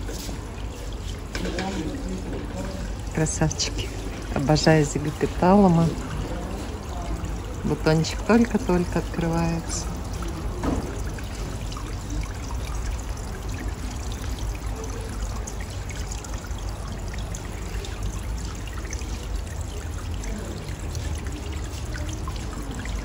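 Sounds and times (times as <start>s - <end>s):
fountain water trickling: 0.0s - 23.0s.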